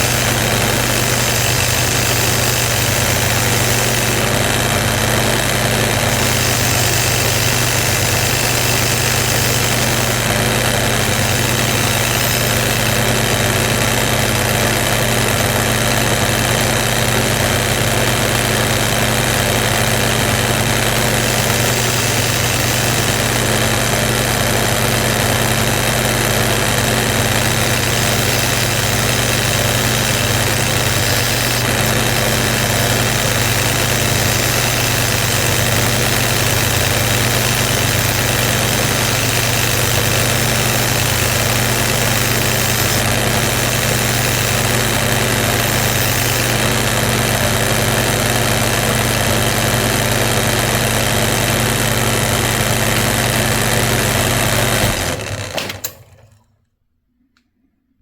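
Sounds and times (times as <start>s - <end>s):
wire wheel grinder running: 0.0s - 56.4s.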